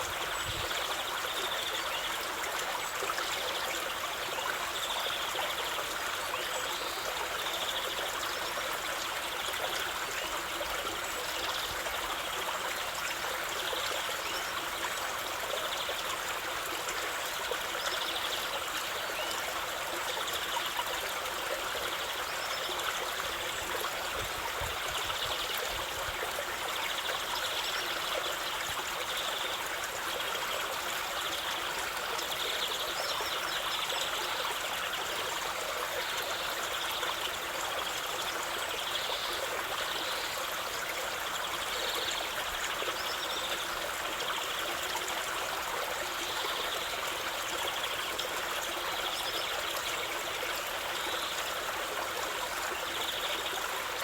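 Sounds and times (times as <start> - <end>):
stream of water trickling: 0.0 - 54.0.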